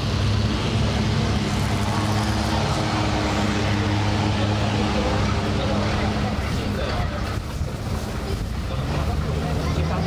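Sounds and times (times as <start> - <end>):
boat engine running steadily: 0.0 - 10.0.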